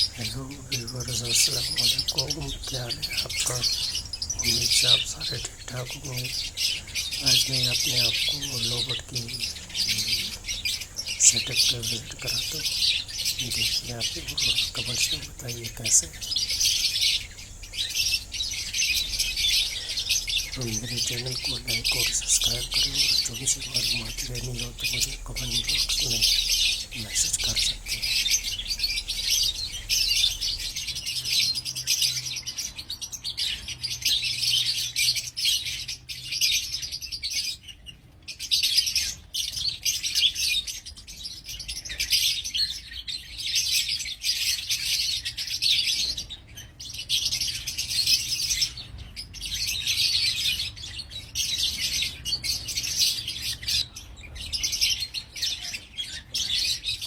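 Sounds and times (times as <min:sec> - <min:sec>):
lovebirds chattering: 0:00.0 - 0:57.0.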